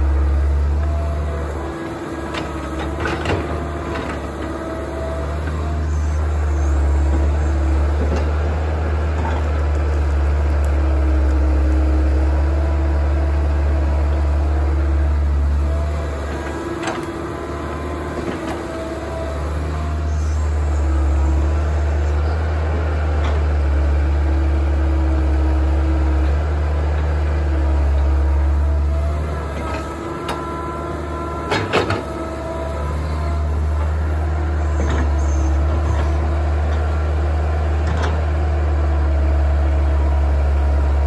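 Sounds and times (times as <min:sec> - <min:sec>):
hydraulic whine: 0:00.0 - 0:38.2
excavator diesel engine: 0:00.0 - 0:41.0.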